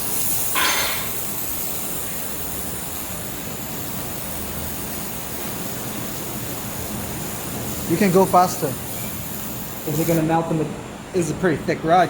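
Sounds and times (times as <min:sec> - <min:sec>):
laser welder hissing: 0:00.0 - 0:10.7.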